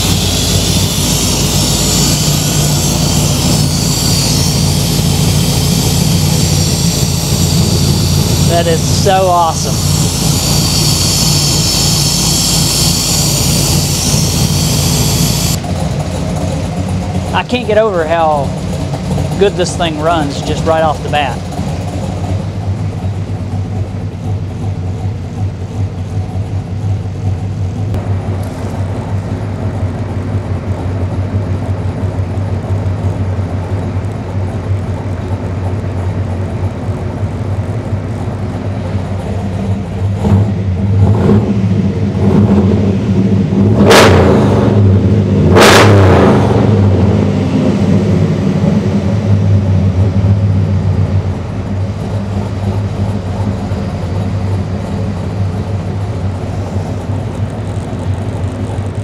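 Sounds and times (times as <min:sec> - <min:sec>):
pickup engine idling and revving: 0:00.0 - 0:59.0.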